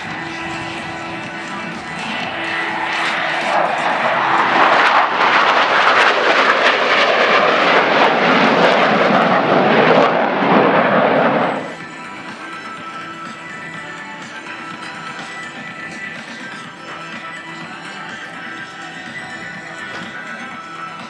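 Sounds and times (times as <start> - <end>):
jet engines flying past: 0.0 - 21.0.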